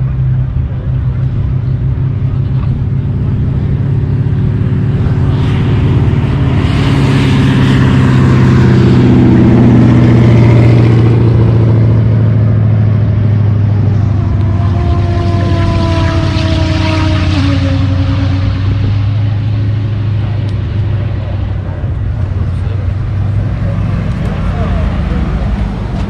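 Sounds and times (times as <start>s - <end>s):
race cars at full throttle: 0.0s - 26.0s.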